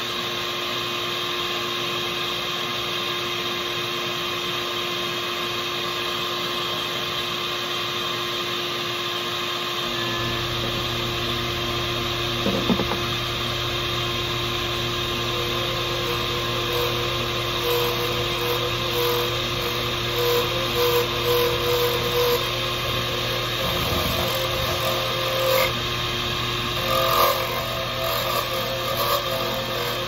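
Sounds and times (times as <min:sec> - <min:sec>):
lathe motor running: 0:01.8 - 0:30.0.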